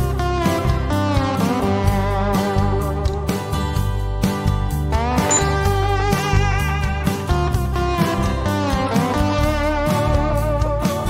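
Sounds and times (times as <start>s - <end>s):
guitar-led background music: 0.0s - 11.0s.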